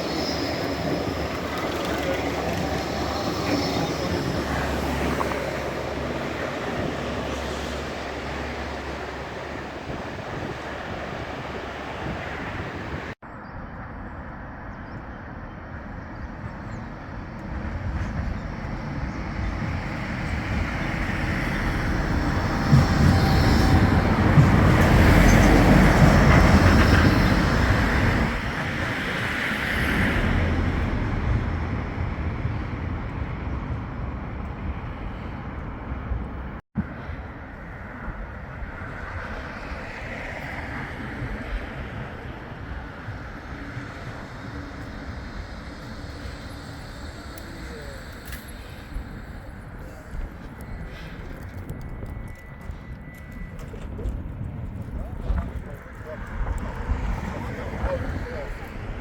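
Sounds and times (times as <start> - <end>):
tram running past: 0.0 - 13.2, 13.9 - 59.0.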